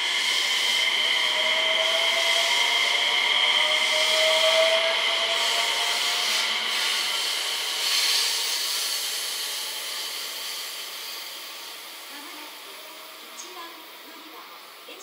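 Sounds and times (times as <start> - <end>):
electric train rolling on track: 0.0 - 15.0.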